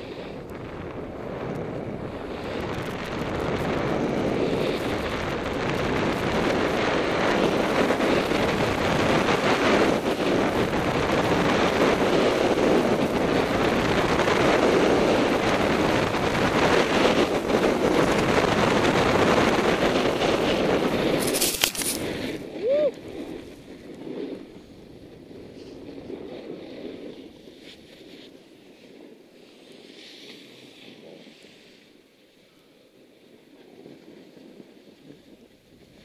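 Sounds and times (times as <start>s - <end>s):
snowboard sliding over snow: 0.0s - 36.0s
wind rushing over microphone: 0.0s - 36.0s.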